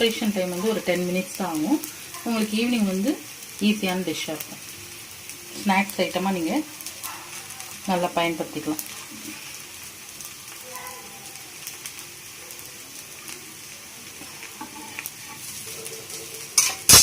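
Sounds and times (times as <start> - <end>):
flatbread frying in oil: 0.0 - 17.0.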